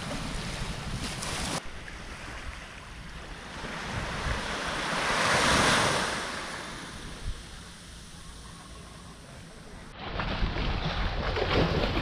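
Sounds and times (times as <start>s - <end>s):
waves breaking on beach: 0.0s - 9.9s
wind rumbling on microphone: 0.0s - 12.0s.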